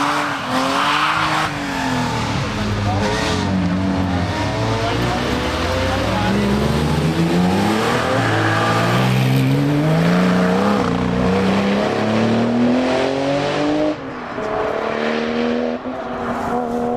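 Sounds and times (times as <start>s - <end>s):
race car engine revving: 0.0s - 16.9s.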